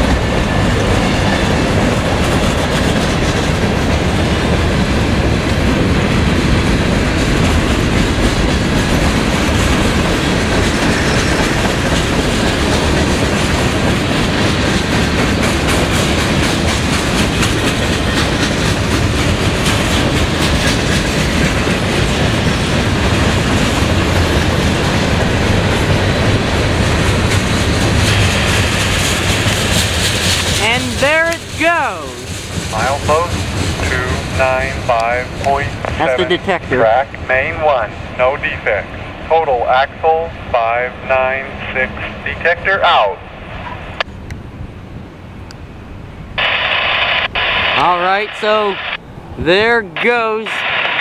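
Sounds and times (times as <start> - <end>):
freight train wheels rumbling and clattering: 0.0 - 46.6.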